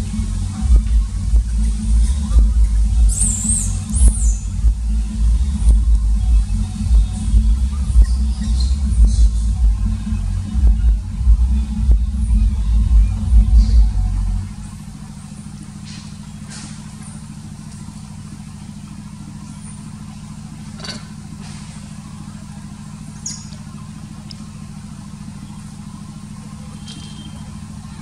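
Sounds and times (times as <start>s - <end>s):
low motor hum: 0.0s - 28.0s.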